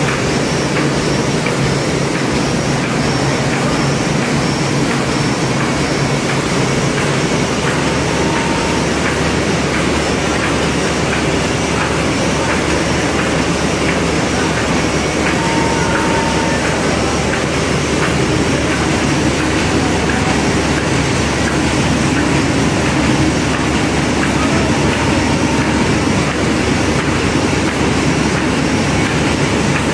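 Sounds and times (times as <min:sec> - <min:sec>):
laminating machine running: 0:00.0 - 0:29.9.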